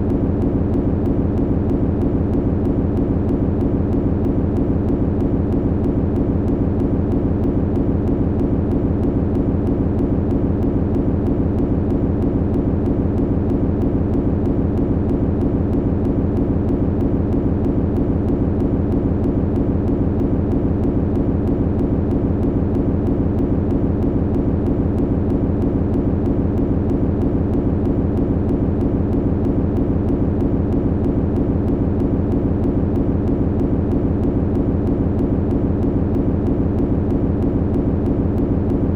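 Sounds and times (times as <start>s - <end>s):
machinery humming with pulsing: 0.0s - 38.9s.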